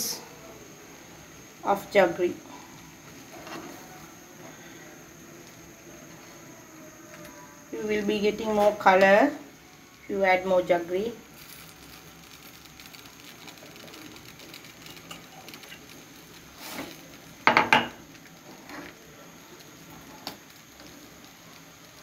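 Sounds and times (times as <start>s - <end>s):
faint bubbling: 0.0s - 22.0s.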